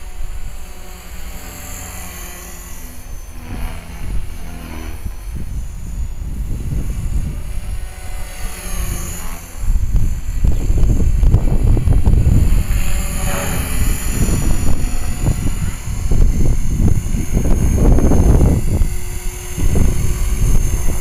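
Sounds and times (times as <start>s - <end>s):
rc helicopter motor whine: 0.0s - 21.0s
rotor blades buzzing: 0.0s - 21.0s
wind rumble on microphone: 0.0s - 21.0s.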